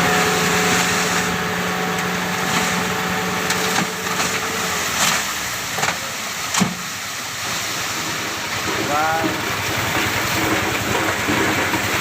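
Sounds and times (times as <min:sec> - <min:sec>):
dump truck engine running: 0:00.0 - 0:12.0.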